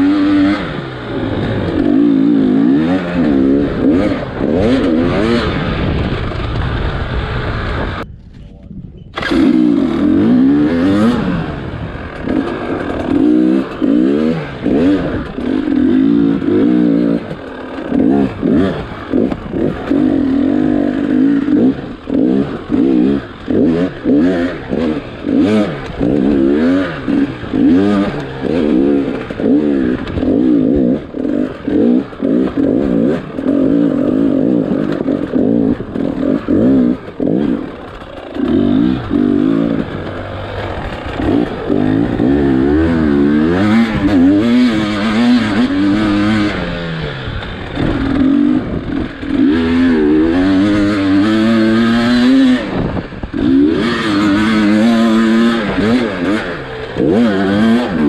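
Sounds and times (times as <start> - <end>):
dirt bike engine revving: 0.0 - 8.0, 9.1 - 58.0.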